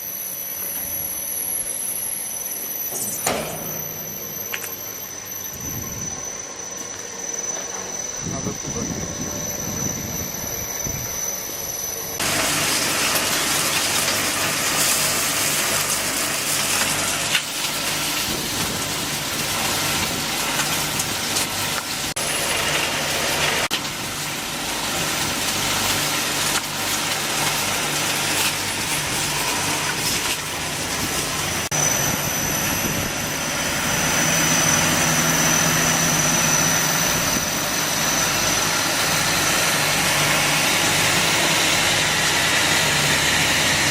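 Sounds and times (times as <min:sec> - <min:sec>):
machinery hum: 0:00.0 - 0:43.9
thin high whine: 0:00.0 - 0:43.9.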